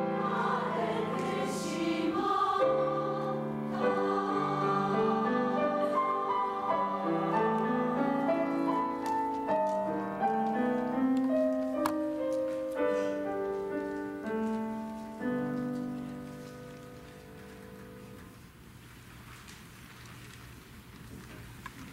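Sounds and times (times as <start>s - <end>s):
grand piano chords: 0.0s - 18.5s.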